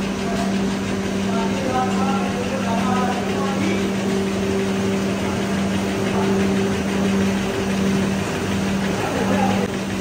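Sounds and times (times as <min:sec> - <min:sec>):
continuous rushing noise: 0:00.0 - 0:10.0
machinery low drone: 0:00.0 - 0:10.0.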